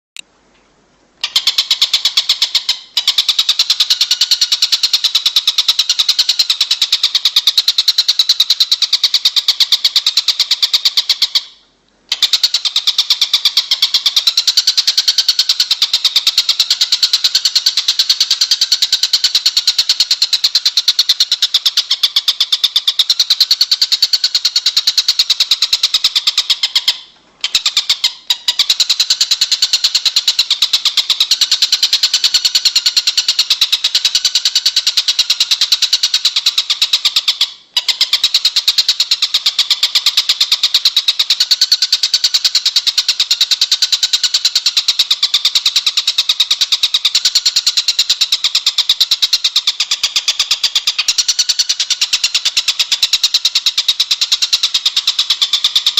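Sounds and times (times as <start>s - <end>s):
high-pitched birdsong trill: 1.2s - 55.9s.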